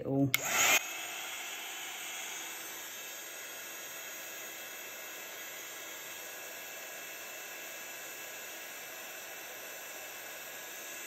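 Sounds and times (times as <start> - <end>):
heat tool fan hissing: 0.4 - 11.0.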